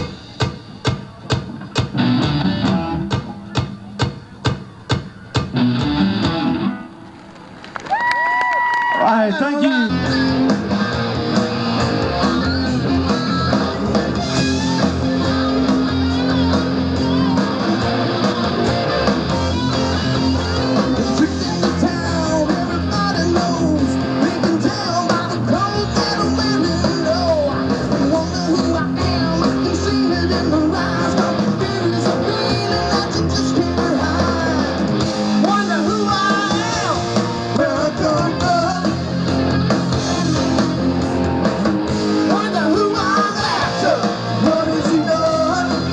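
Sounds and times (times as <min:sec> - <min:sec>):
bass guitar: 0:00.0 - 0:07.6, 0:09.8 - 0:45.9
drums: 0:00.0 - 0:45.9
electric guitars: 0:01.5 - 0:03.6, 0:05.4 - 0:09.0, 0:09.8 - 0:45.9.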